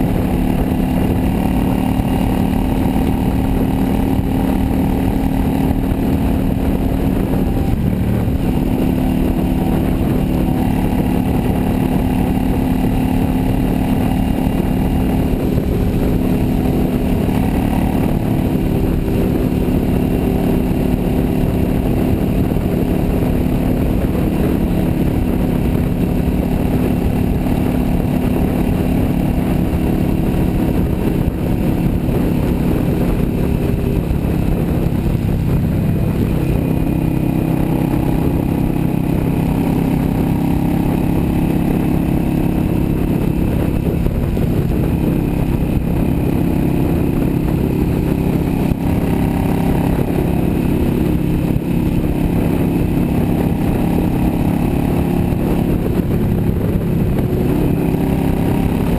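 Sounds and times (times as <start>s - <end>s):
motorcycle engine cruising: 0.0s - 58.9s
wind and road noise: 0.0s - 58.9s.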